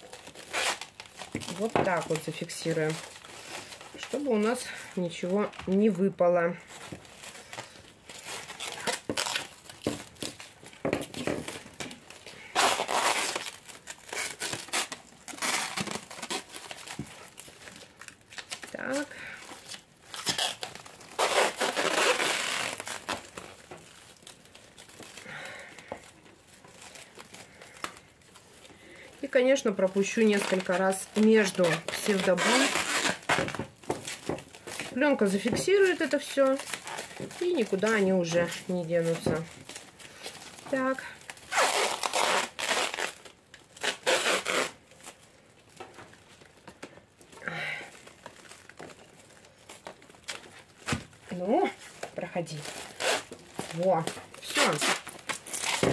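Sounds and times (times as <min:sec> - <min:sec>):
plastic film crinkling: 0:00.0 - 0:55.9.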